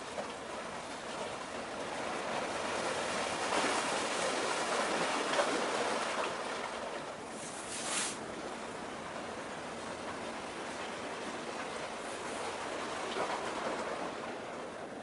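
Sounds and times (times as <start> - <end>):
waves washing at shore: 0.0 - 15.0.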